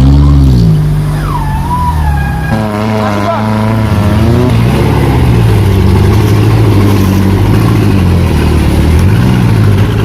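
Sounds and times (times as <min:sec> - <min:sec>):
vehicle engine at low revs: 0:00.0 - 0:01.4, 0:02.3 - 0:10.0.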